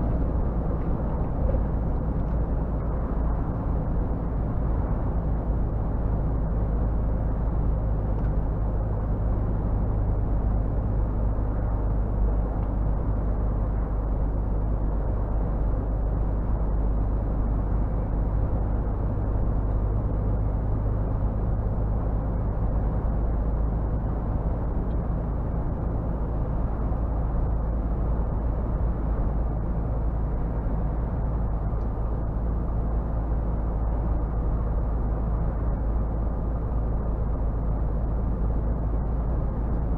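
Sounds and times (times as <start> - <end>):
road noise: 0.0 - 39.9
truck diesel engine humming: 0.0 - 39.9.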